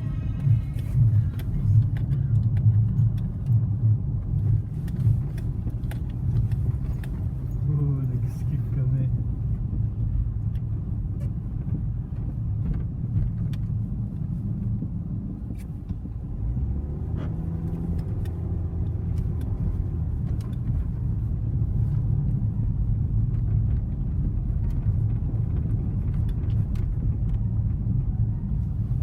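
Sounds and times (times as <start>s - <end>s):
car low rumble: 0.0s - 29.0s.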